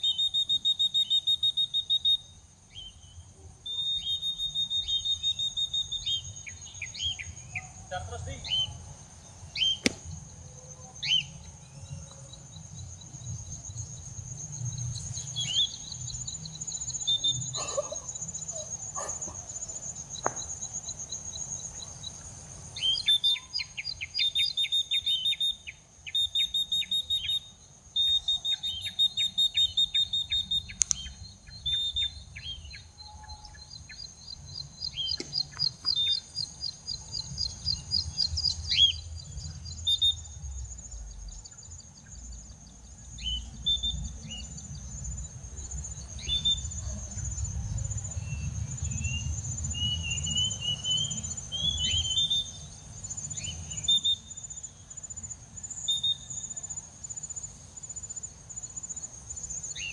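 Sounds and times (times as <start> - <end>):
bird chirping: 0.0 - 57.4, 58.6 - 59.9
high insect drone: 0.0 - 59.9.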